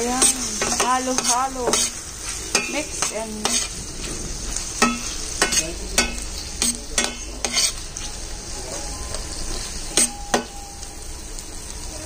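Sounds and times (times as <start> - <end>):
metal spoon scraping a pan: 0.0 - 8.9, 9.5 - 10.6
food sizzling in a pan: 0.0 - 12.0.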